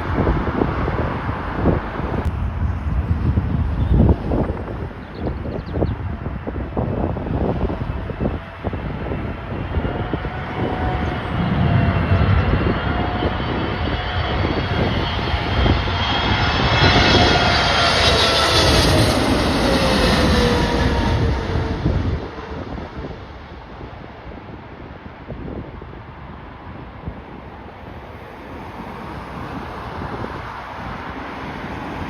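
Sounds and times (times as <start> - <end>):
jet airliner passing: 0.0 - 32.0
wind buffeting microphone: 0.0 - 32.0.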